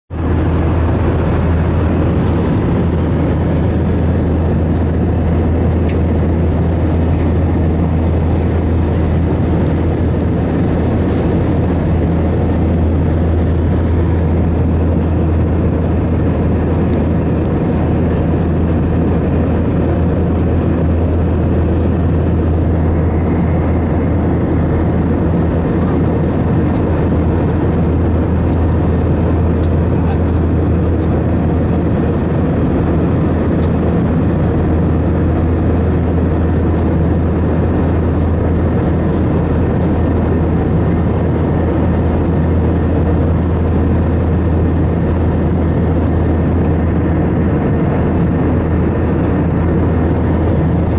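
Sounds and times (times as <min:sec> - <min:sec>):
constant low hum: 0:00.1 - 0:50.9
jet engine rushing noise in cabin: 0:00.1 - 0:50.9.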